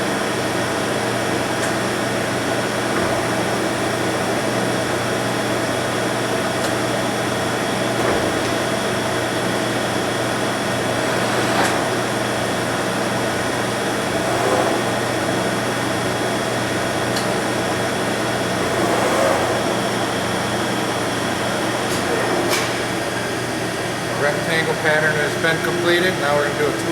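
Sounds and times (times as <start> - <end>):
milling machine humming: 0.0 - 26.9.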